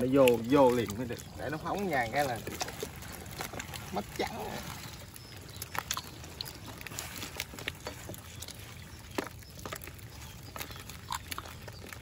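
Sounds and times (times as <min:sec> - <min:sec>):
water patter: 0:00.0 - 0:12.0.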